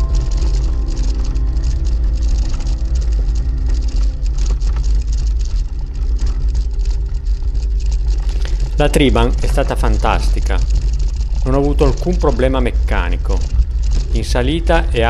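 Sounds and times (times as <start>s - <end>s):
bike road rumble: 0.0s - 15.0s
tyres rattling over loose gravel: 0.0s - 15.0s
wind buffeting: 0.0s - 15.0s.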